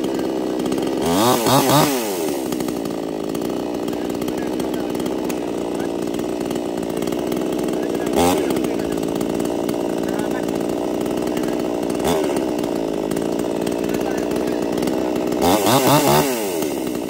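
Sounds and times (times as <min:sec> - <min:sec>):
chainsaw idling: 0:00.0 - 0:17.0
chainsaw throttle blip: 0:00.0 - 0:17.0.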